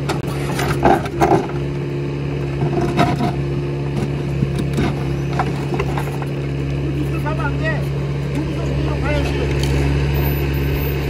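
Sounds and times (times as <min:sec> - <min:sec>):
bucket scraping rocky soil: 0:00.0 - 0:01.7, 0:02.5 - 0:09.9
excavator engine running: 0:00.0 - 0:11.0.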